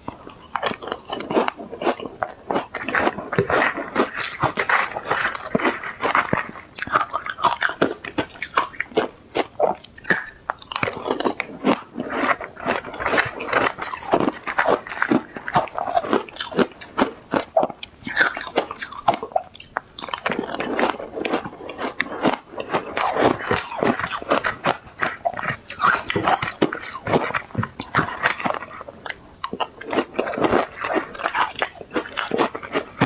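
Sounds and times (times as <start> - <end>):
ice crunching between teeth: 0.0 - 33.0.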